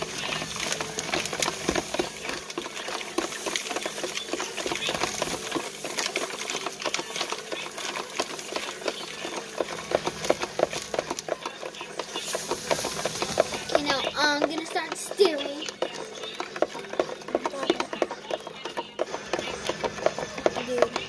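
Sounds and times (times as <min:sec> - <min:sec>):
utensil stirring in plastic pitcher: 0:00.0 - 0:21.0.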